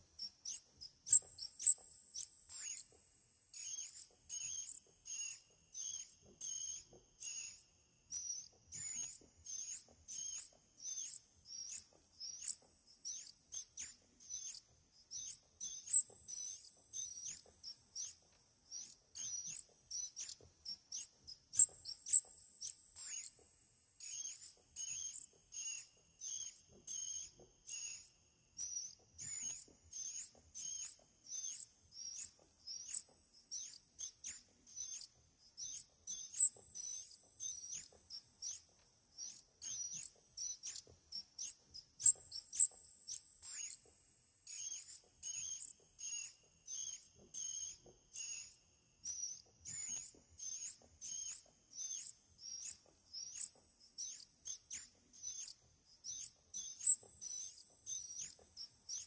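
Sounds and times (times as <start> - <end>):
squirrel chirping: 0.0 - 23.4, 24.0 - 59.0.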